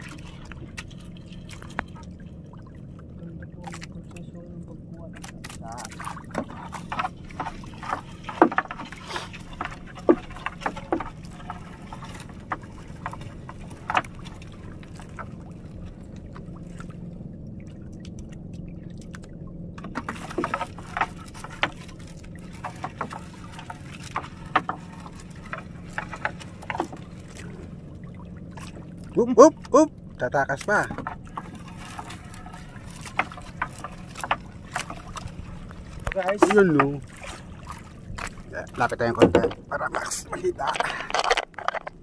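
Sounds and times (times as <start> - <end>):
steady low hum: 0.0 - 42.0
water dripping and splashing: 0.0 - 42.0.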